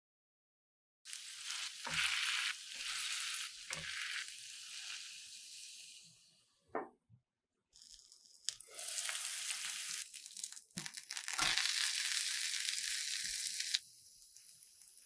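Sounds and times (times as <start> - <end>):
potato sizzling in oil: 1.1 - 6.4, 7.8 - 15.0.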